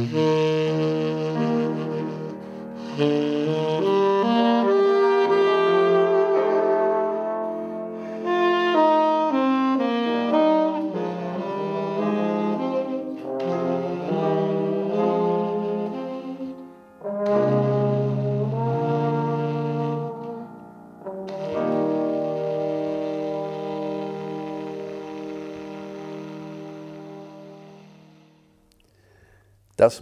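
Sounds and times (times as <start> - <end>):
trombone: 0.0 - 28.5
tenor saxophone: 0.0 - 29.5.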